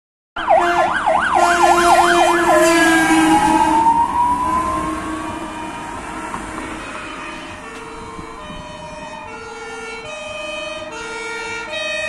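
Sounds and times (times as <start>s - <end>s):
fire engine siren: 0.4s - 12.0s.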